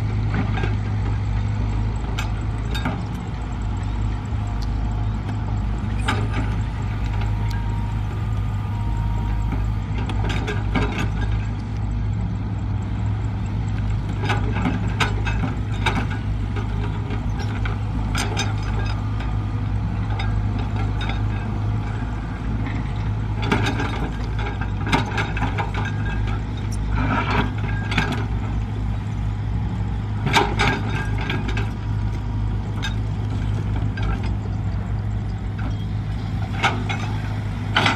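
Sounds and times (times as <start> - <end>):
excavator diesel engine running: 0.0 - 37.9
metal clanks and knocks: 0.2 - 1.2, 2.0 - 11.8, 13.8 - 22.0, 22.6 - 28.6, 30.2 - 34.6, 35.4 - 37.9.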